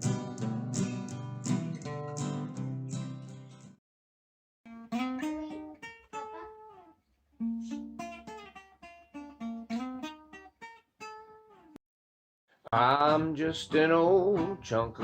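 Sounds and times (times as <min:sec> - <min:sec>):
acoustic guitar picking: 0:00.0 - 0:03.8, 0:04.7 - 0:11.7, 0:12.8 - 0:15.0.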